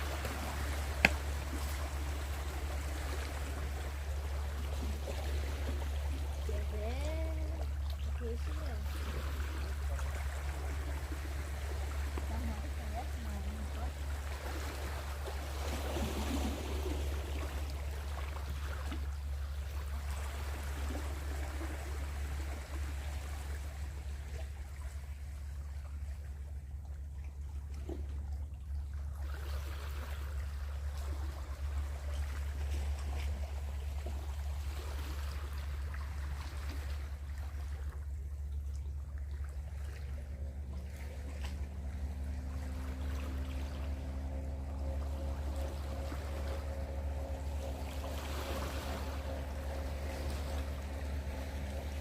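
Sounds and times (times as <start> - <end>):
seawater lapping: 0.0 - 52.0.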